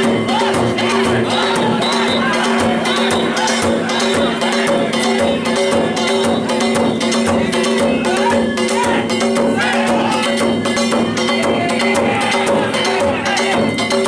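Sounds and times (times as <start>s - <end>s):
held melody line: 0.0s - 14.0s
taiko drum beating: 0.0s - 14.0s.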